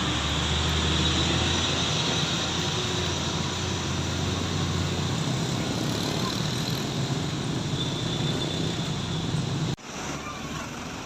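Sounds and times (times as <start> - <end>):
heavy trucks passing: 0.0 - 11.0.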